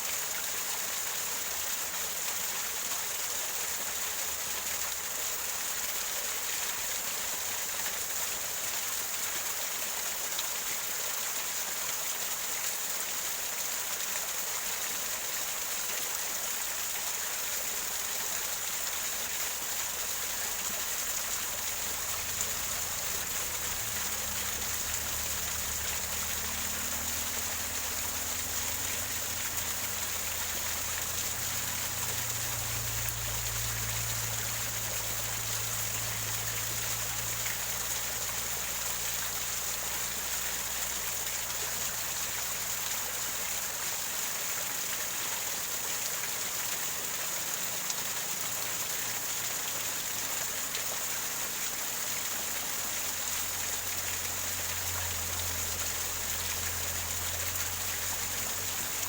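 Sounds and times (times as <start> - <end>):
small waterfall gurgling over rocks: 0.0 - 59.0.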